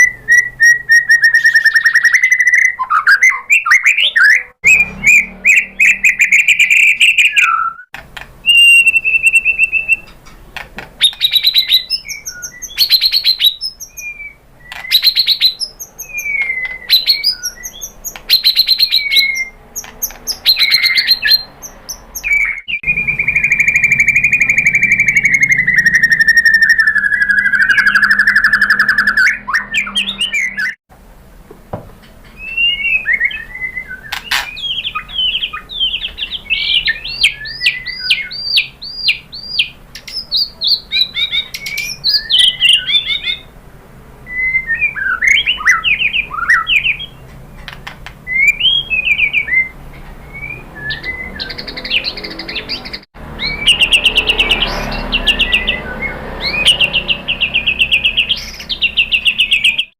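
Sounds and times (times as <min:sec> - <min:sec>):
bird singing trills and whistles: 0:00.0 - 0:10.3, 0:11.0 - 0:30.8, 0:32.2 - 0:43.5, 0:44.3 - 0:47.3, 0:48.3 - 0:59.9.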